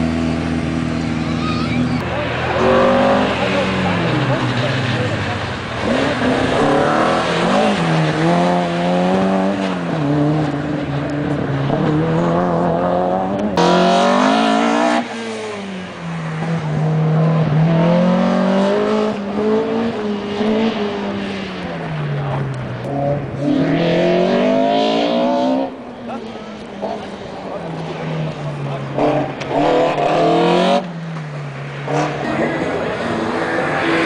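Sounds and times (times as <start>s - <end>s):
car engine revving hard: 0.0s - 30.9s, 31.8s - 34.0s.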